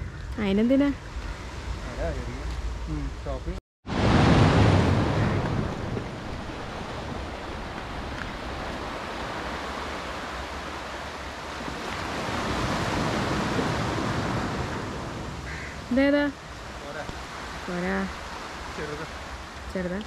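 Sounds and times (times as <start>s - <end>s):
surf washing onto beach: 3.2s - 20.0s.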